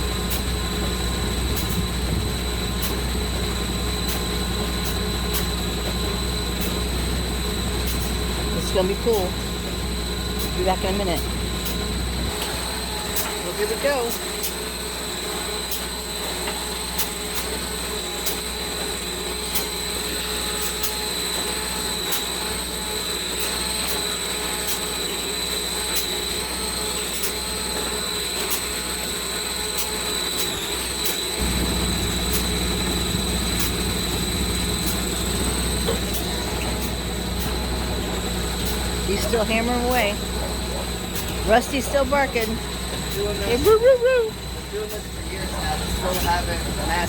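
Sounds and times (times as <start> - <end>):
engine droning: 0.0 - 47.0.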